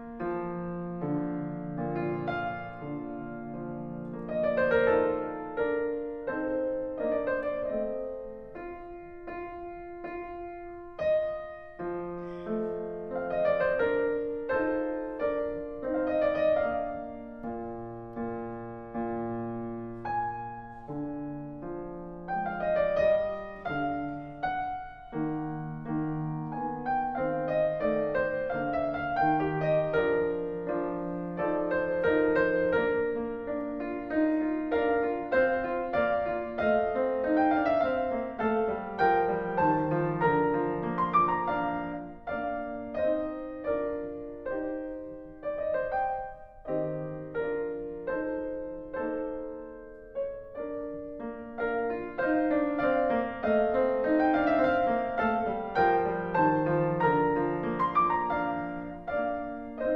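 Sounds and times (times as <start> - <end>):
gentle piano melody: 0.0 - 59.9.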